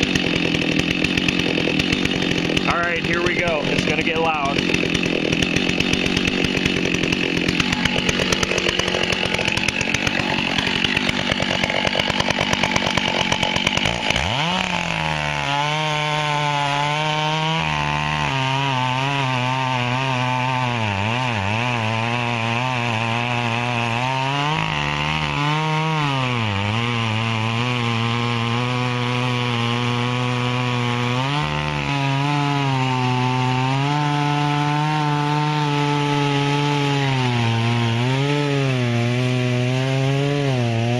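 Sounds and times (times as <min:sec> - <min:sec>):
chainsaw idling: 0:00.0 - 0:40.9.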